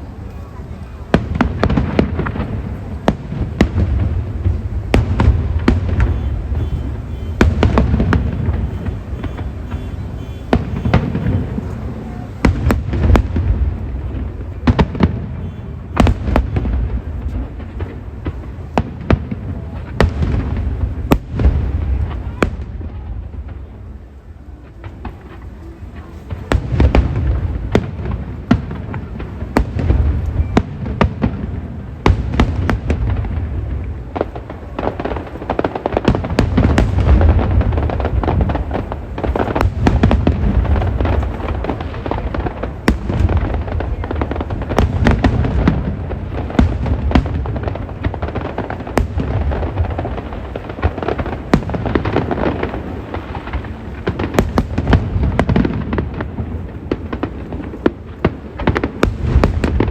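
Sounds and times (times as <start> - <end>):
fireworks cracking: 0.0 - 59.9
low rumble of fireworks: 0.0 - 59.9.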